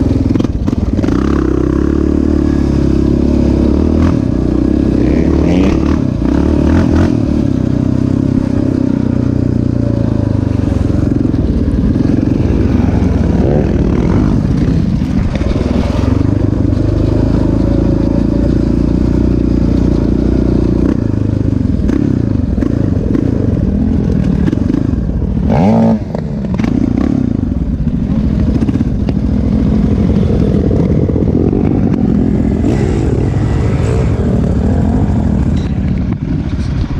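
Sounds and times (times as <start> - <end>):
off-road bike engine revving: 0.0 - 36.9.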